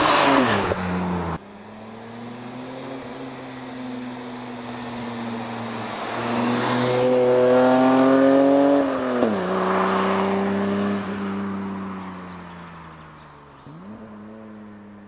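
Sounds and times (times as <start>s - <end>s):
car engine and exhaust accelerating: 0.0s - 15.0s.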